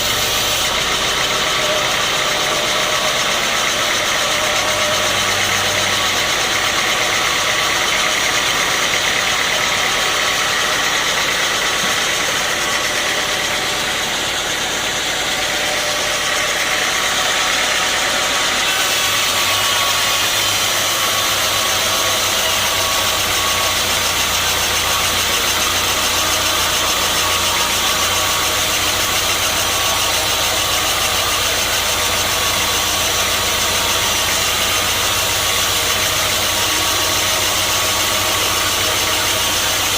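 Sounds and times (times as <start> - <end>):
deep machine hum: 0.0 - 39.9
sawmill saw running: 0.0 - 39.9.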